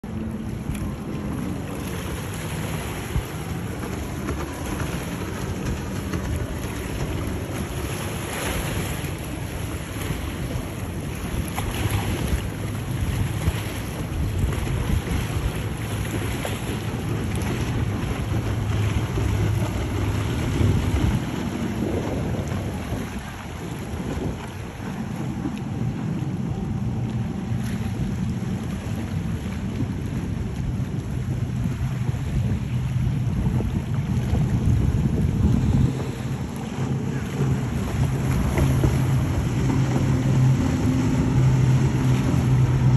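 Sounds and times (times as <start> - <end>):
choppy water: 0.0 - 42.9
outboard engines droning: 0.0 - 42.9
wind on microphone: 0.0 - 42.9.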